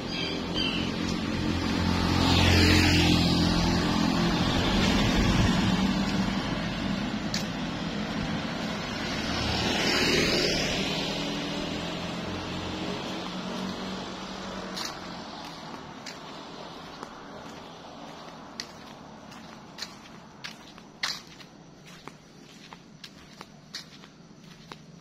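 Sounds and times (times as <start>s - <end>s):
road noise: 0.0s - 25.0s.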